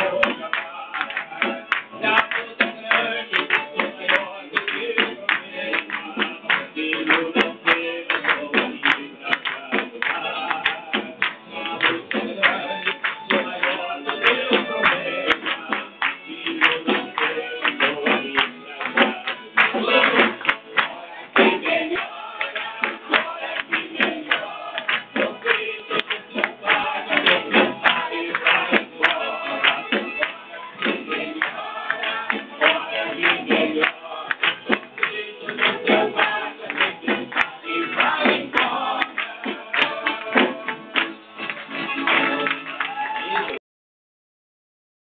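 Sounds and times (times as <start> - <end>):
people singing along: 0.0 - 41.4
live band with electric guitar: 0.0 - 43.6
people clapping: 0.0 - 43.6.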